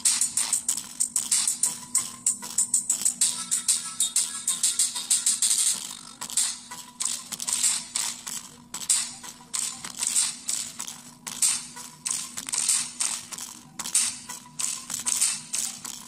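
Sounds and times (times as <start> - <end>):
small speaker pulsing audio: 0.0 - 16.0
transistors rattling on speaker: 0.0 - 16.0.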